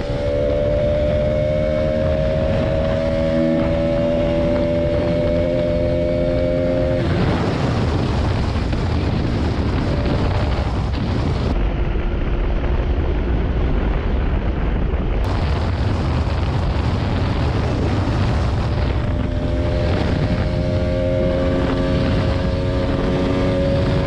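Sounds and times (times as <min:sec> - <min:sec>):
motorcycle engine hum: 0:00.0 - 0:24.0
wind rush on microphone: 0:00.0 - 0:24.0.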